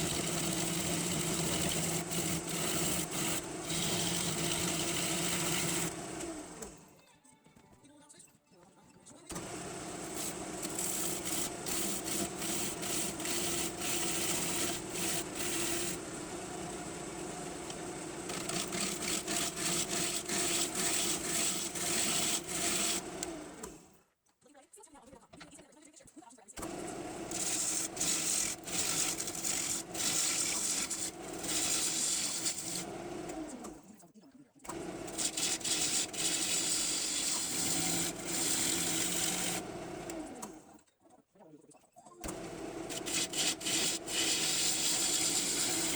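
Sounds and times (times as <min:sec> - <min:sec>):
turning tool cutting wood: 0:00.0 - 0:06.8, 0:09.3 - 0:23.9, 0:26.6 - 0:34.0, 0:34.7 - 0:40.7, 0:42.2 - 0:45.9
wood lathe humming: 0:00.0 - 0:06.8, 0:09.3 - 0:23.8, 0:26.6 - 0:33.7, 0:34.7 - 0:40.7, 0:42.3 - 0:45.9.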